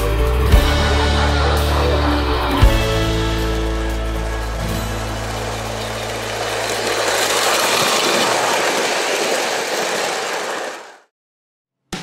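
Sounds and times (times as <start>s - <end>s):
model train rolling on track: 0.6s - 11.0s.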